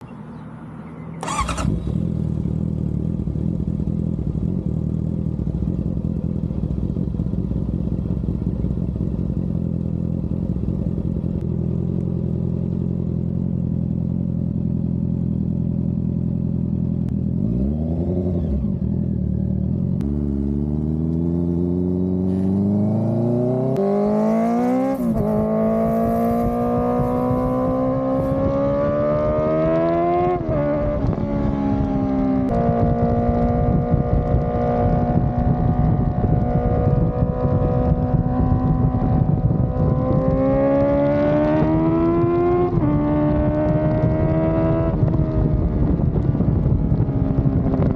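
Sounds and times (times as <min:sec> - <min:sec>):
motorcycle engine revving and idling: 0:00.0 - 0:47.9
motorcycle accelerating through gears: 0:00.3 - 0:47.9.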